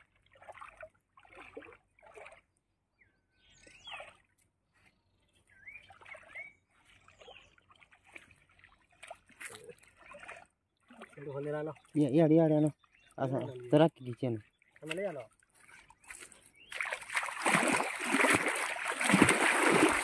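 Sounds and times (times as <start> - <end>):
water sloshing and trickling: 0.0 - 2.8, 3.4 - 20.0.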